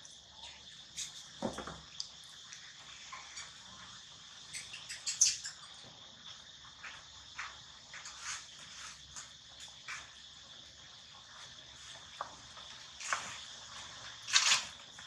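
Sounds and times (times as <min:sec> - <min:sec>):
insect chirps and clicks: 0:00.0 - 0:15.0
insects droning: 0:00.0 - 0:15.0.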